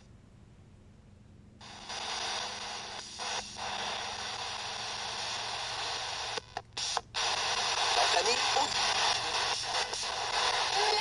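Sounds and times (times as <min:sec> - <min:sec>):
radio static hiss: 0:01.6 - 0:11.0.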